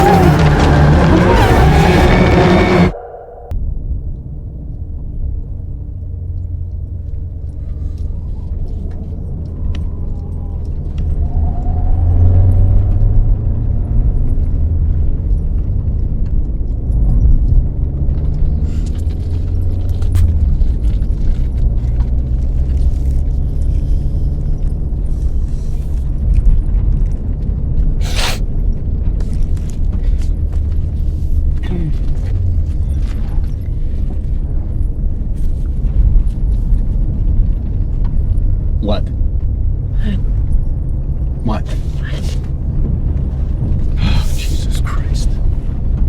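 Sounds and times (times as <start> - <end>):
car driving rumble: 0.0 - 46.0.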